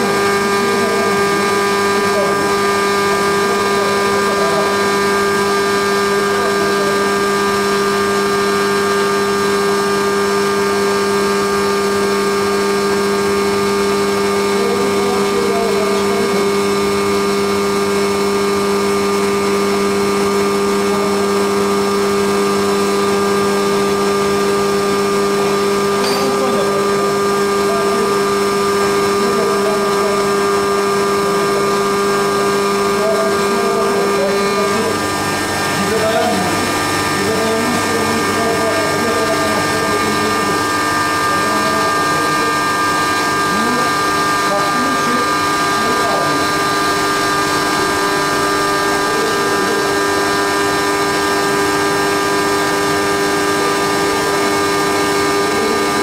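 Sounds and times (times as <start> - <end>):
milling machine hum with tones: 0.0 - 56.0.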